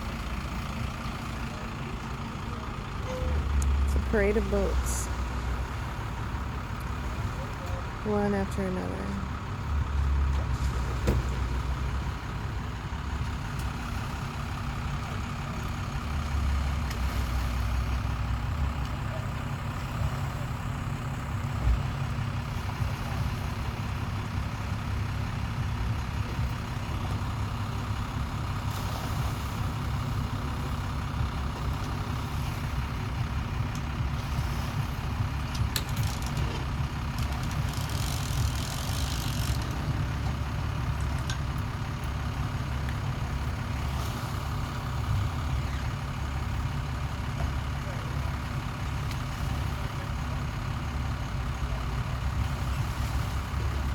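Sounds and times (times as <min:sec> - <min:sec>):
motor engines idling: 0:00.0 - 0:53.9.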